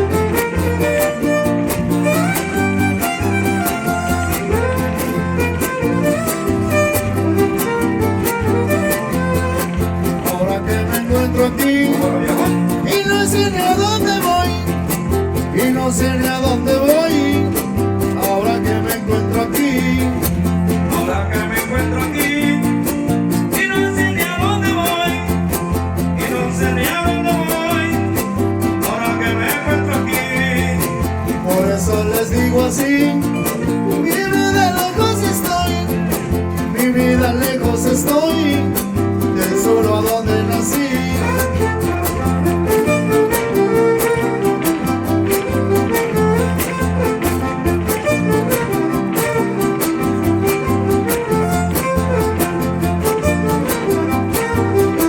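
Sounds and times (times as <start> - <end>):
strummed guitars: 0.0 - 55.0
violin line: 0.0 - 55.0.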